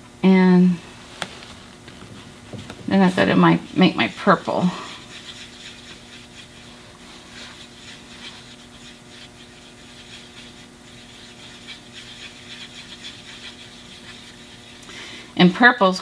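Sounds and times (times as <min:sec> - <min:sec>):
faint steady hum: 0:00.0 - 0:16.0
paintbrush scratchy brushing: 0:01.1 - 0:14.8.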